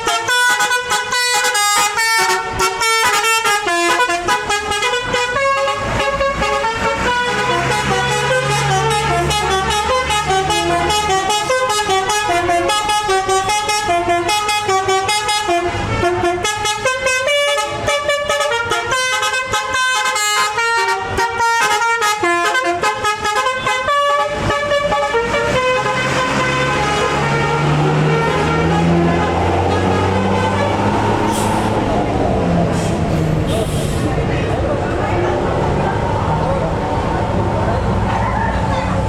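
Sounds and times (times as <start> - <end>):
musical air horn melody: 0.0 - 31.9
bus engine hum: 0.0 - 39.0.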